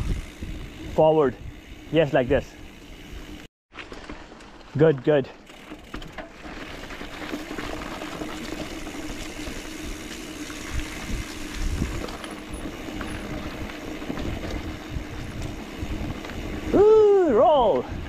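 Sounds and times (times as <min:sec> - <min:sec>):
bike tyres rolling on dirt trail: 0:00.0 - 0:18.0.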